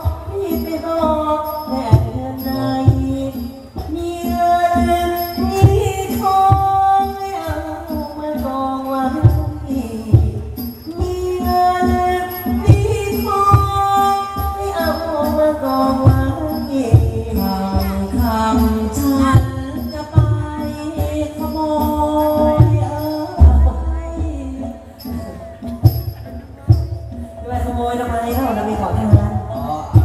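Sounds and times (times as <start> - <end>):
regular drum beats: 0.0 - 30.0.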